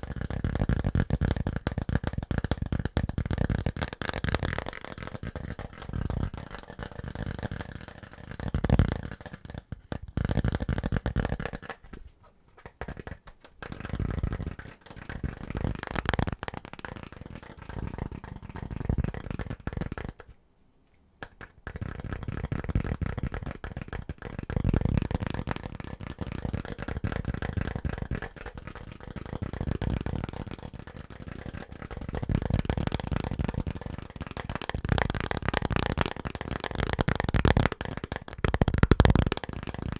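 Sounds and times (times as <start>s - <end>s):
rapid tapping on household objects: 0.0s - 20.3s, 21.2s - 39.9s.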